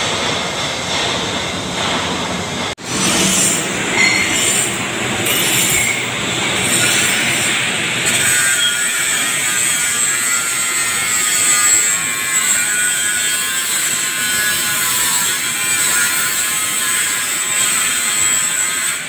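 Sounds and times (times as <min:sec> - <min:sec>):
welding arc buzzing: 0:02.8 - 0:19.0.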